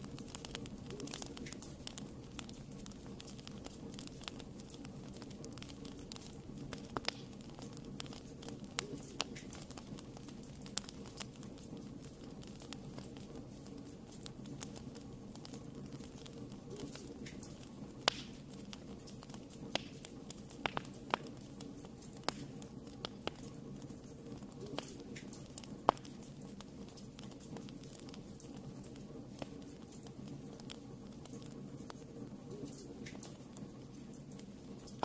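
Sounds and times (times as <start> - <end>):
fire popping: 0.0 - 35.0
wood fire crackling: 0.0 - 35.0.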